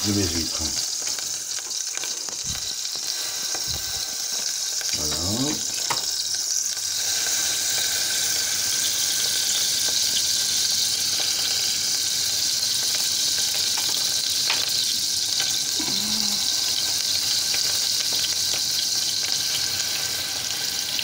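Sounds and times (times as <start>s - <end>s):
butter sizzling in saucepan: 0.0s - 21.0s.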